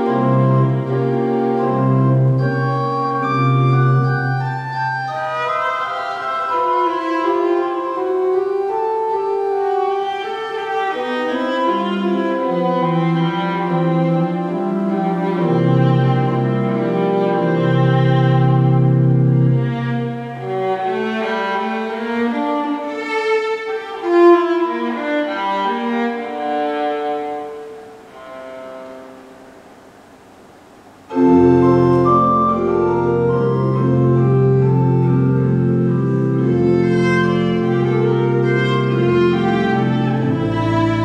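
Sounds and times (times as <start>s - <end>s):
pipe organ chords: 0.0s - 23.1s, 27.4s - 41.0s
viola melody: 0.0s - 29.8s, 31.0s - 41.0s.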